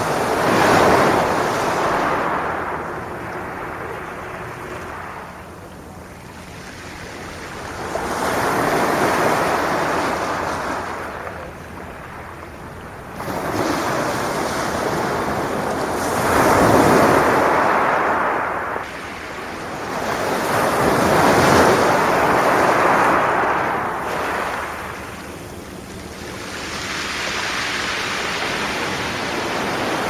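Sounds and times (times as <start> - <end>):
sea waves breaking on shore: 0.0 - 30.0.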